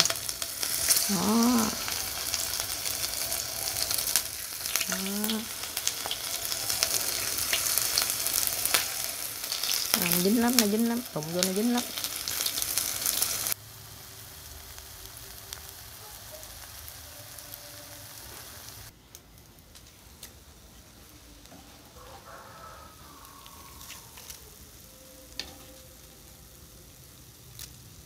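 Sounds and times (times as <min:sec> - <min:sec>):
hot oil sizzling: 0:00.0 - 0:28.0.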